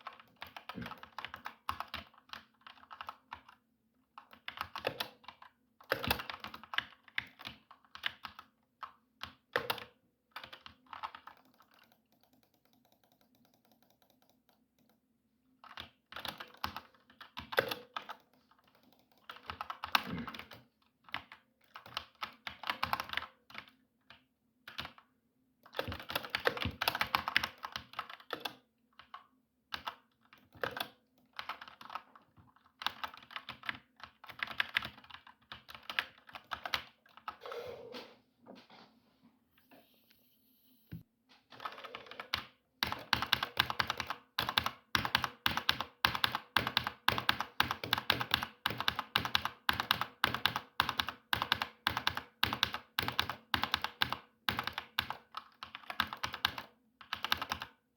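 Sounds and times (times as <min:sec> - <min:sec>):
mechanical keyboard typing: 0:00.0 - 0:03.6, 0:04.2 - 0:15.0, 0:15.6 - 0:23.8, 0:25.6 - 0:37.4, 0:41.5 - 0:57.8.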